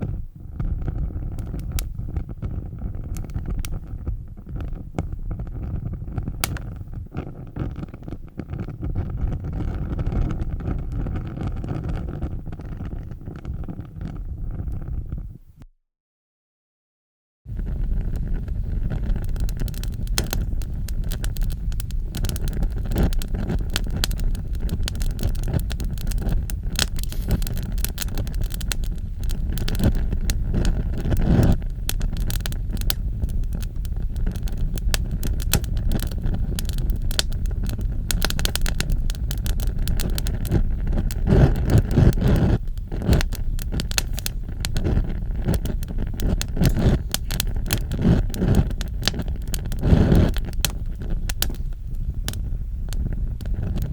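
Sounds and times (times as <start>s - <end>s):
fire crackling: 0.0s - 15.2s, 17.5s - 53.9s
low fire rumble: 0.0s - 15.6s, 17.5s - 53.9s.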